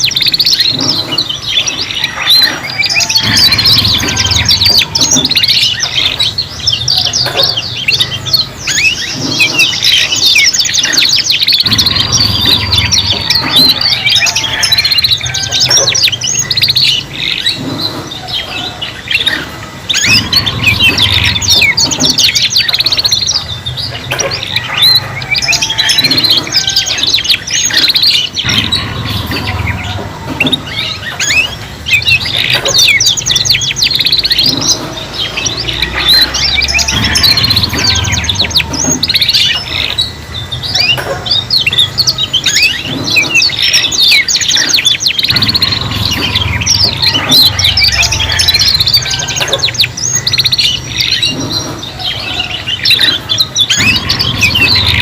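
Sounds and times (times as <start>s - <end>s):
canaries trilling and chirping: 0.0s - 55.0s.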